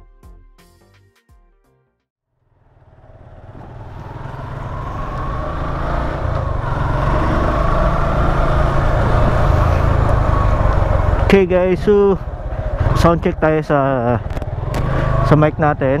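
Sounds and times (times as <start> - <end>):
wind and motorcycle engine rumble: 2.5 - 16.0.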